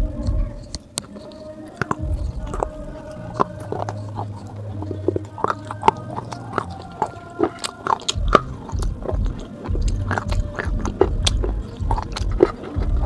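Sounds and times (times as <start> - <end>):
dull chewing thuds: 0.0 - 13.0
teeth crunching clay: 0.0 - 13.0.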